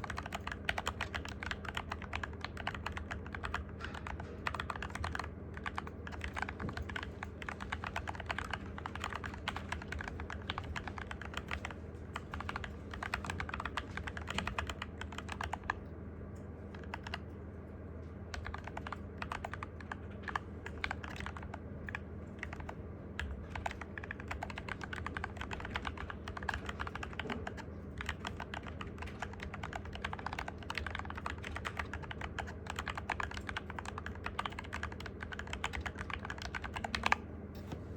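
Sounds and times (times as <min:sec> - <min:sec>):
keyboard typing clicks: 0:00.0 - 0:17.3, 0:18.3 - 0:37.8
steady low hum: 0:00.0 - 0:37.9.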